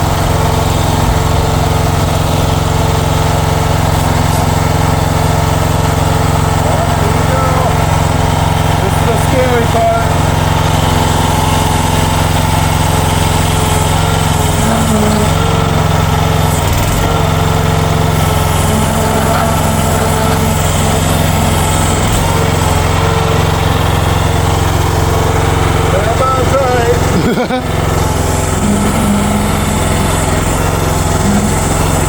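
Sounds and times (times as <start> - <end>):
mini excavator engine running: 0.0 - 32.0.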